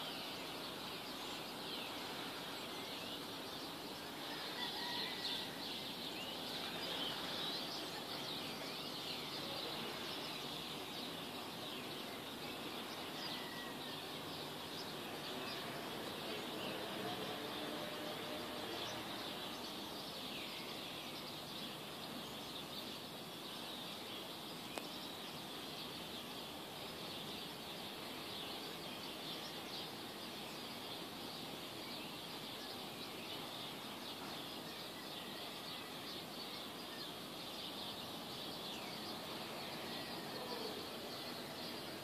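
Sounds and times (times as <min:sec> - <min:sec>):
birds chirping and twittering: 0:00.0 - 0:42.0
steady background hiss: 0:00.0 - 0:42.0.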